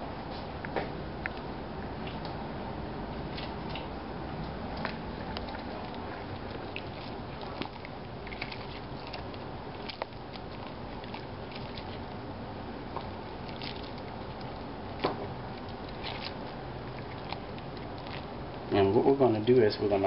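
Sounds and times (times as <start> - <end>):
steady background hiss: 0.0 - 20.0
wet squishing of stirred beans: 3.2 - 20.0.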